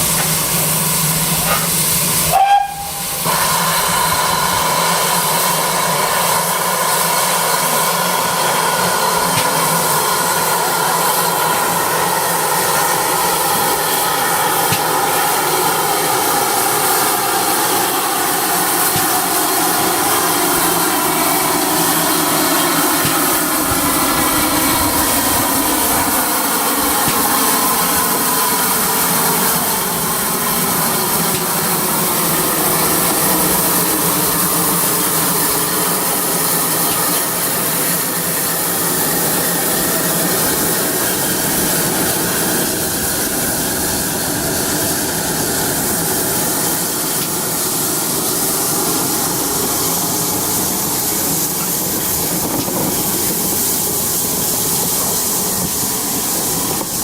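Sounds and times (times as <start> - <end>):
steam hissing: 0.0 - 57.0
train rumbling: 0.0 - 57.0.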